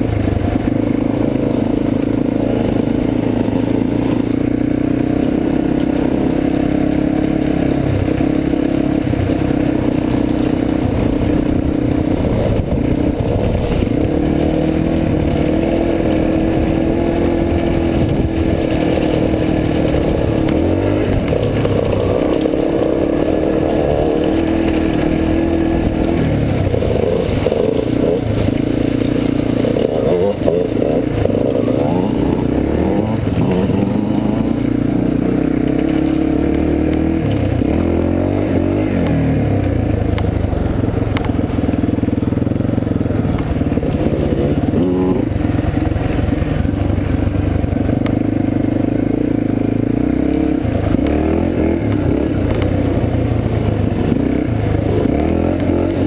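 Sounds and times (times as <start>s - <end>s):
dirt bike engine: 0.0s - 56.0s.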